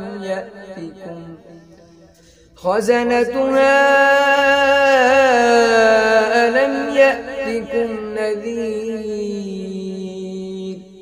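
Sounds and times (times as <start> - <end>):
man chanting: 0.0 - 1.8, 2.5 - 11.0.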